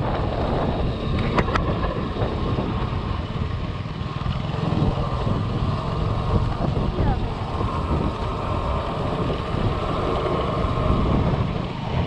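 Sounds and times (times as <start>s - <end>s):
road rumble: 0.0s - 12.0s
wind rushing: 0.0s - 12.0s.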